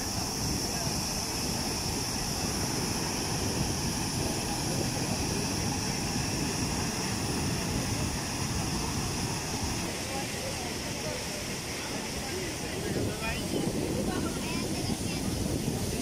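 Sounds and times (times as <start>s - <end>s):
water gushing: 0.0s - 16.0s.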